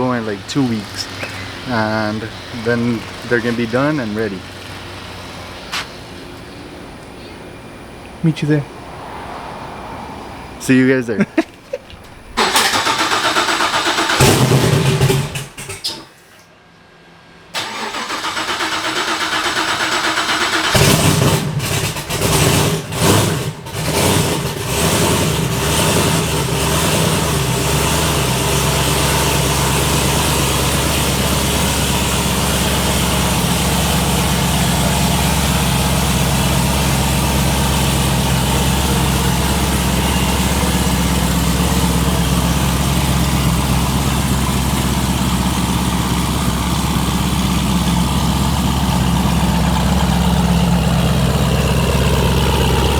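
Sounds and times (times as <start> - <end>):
car engine revving: 0.0 - 7.0, 12.3 - 15.8, 17.6 - 52.9
car engine cranking: 0.0 - 7.1, 11.6 - 16.2, 17.6 - 52.9
car engine idling: 0.0 - 16.0, 17.6 - 52.9.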